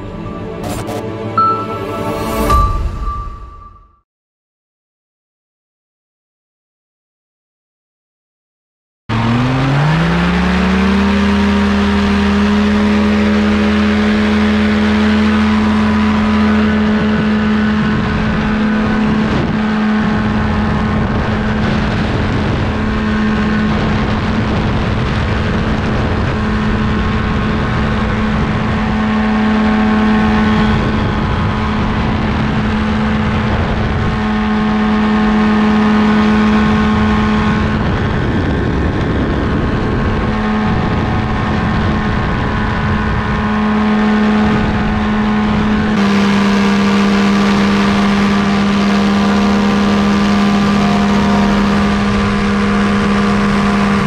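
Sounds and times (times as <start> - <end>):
paramotor engine and propeller: 9.1 - 54.0
wind noise on microphone: 9.1 - 54.0.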